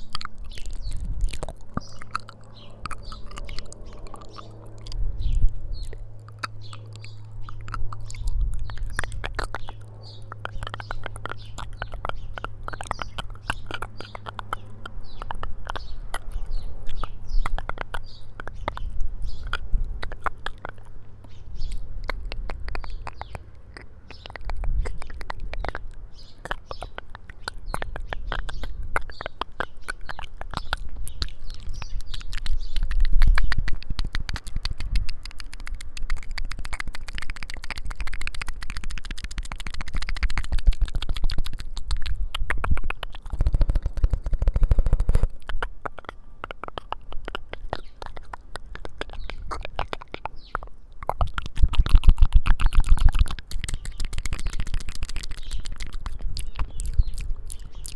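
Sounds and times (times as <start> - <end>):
wet mouth clicks and lip sounds: 0.0 - 57.9.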